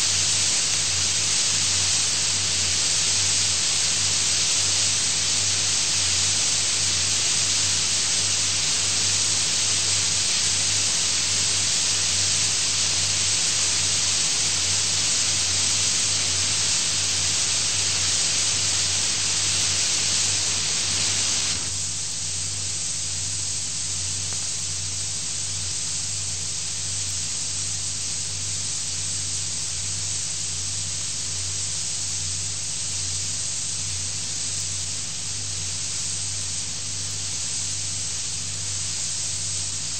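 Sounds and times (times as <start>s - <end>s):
low electrical hum: 0.0s - 39.9s
recording hiss: 0.0s - 39.9s.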